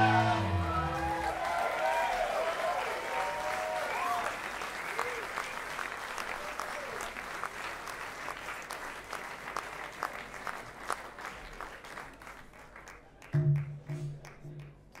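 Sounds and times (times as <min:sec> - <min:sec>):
audience applause: 0:00.0 - 0:15.0.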